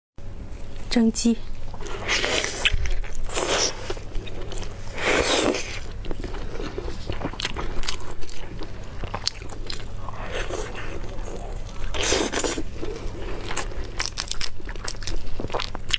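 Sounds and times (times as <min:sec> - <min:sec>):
person crunching and chewing food: 0:00.6 - 0:15.9.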